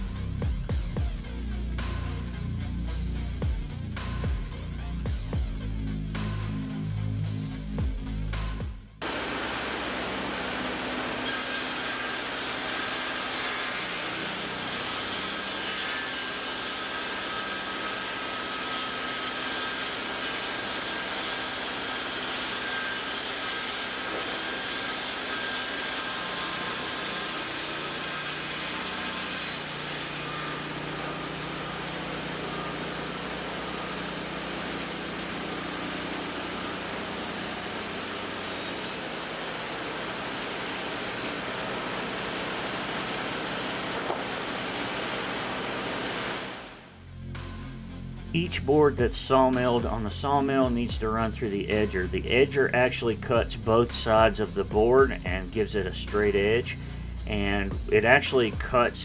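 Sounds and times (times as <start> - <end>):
saw cutting through wood: 9.0 - 47.5, 48.4 - 59.0.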